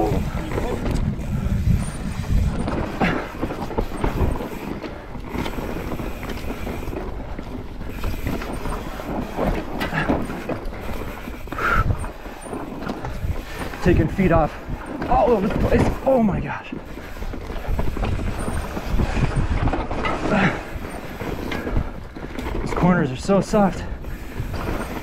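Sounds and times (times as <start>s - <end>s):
wind on microphone: 0.0s - 16.1s, 16.8s - 22.8s
bike rattling: 0.0s - 25.0s
bike tyres rolling on dirt: 0.0s - 25.0s.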